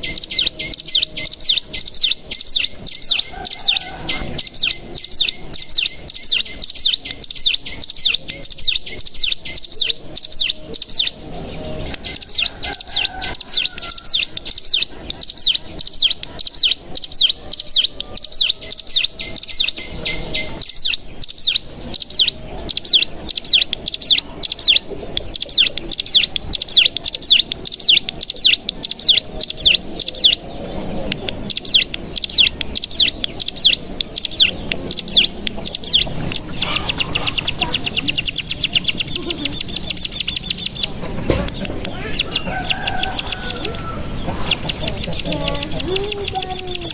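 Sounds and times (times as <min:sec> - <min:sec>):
bird trilling rapid falling chirps: 0:00.0 - 0:46.9.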